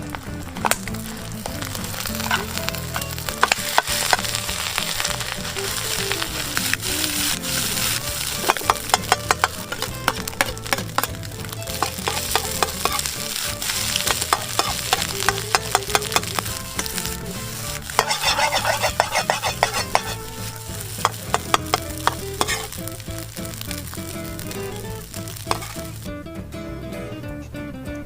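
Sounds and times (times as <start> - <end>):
rice sizzling in a frying pan: 0.0 - 26.1
metal utensil scraping a pan: 1.4 - 26.0.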